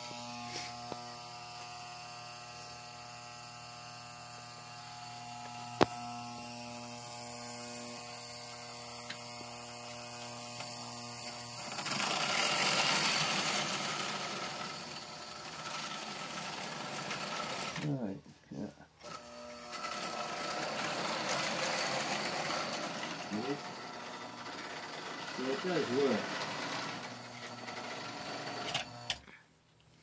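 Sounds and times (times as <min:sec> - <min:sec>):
toy train transformer humming: 0:00.0 - 0:17.8, 0:19.0 - 0:29.2
toy locomotive motor whirring: 0:00.0 - 0:18.0, 0:19.0 - 0:29.2.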